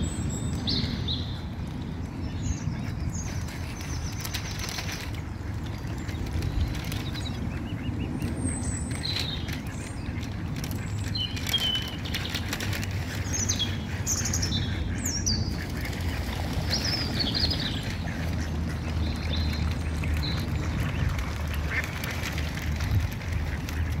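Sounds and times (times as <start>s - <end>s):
waterfowl peeping: 2.7s - 24.0s.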